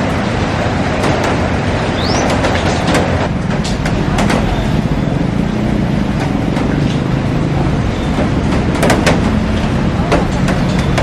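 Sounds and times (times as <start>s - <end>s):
heavy rain on a glass roof: 0.0s - 11.0s.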